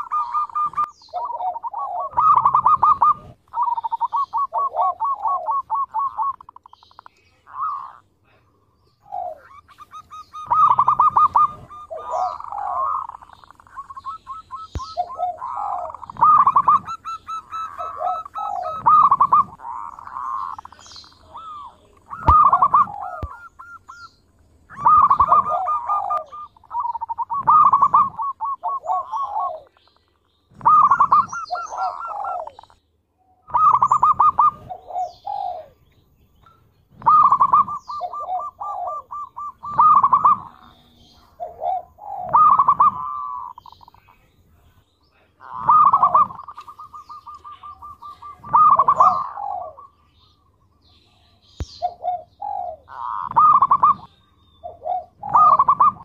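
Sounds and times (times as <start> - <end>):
dove cooing: 0.0 - 29.9, 30.5 - 32.8, 33.4 - 36.1, 36.8 - 50.4, 51.6 - 56.0.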